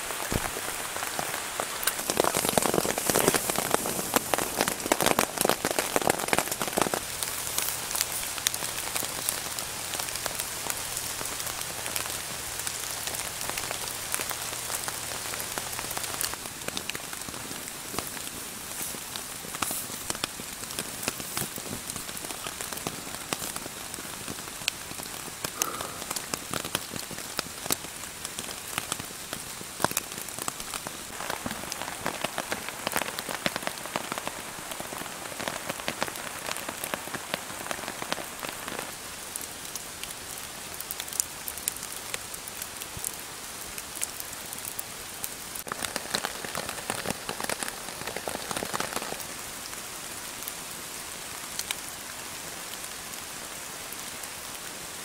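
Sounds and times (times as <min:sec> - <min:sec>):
rain on a tarp: 0:00.0 - 0:55.0.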